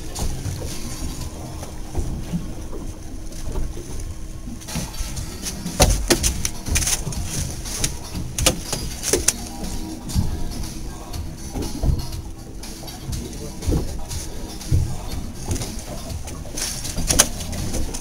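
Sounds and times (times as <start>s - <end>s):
faint steady hum: 0.0s - 18.0s
wind and boat rumble: 0.0s - 18.0s.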